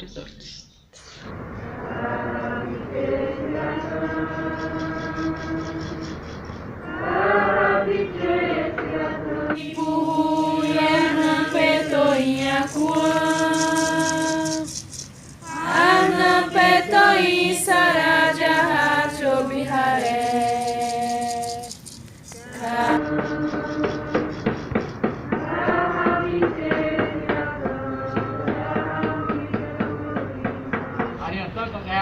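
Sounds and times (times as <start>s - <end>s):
voices singing chant-like song: 1.2s - 31.3s.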